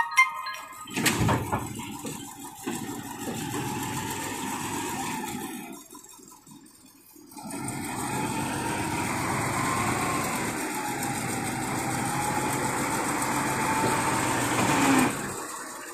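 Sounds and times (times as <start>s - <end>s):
truck engine running: 0.5s - 15.9s.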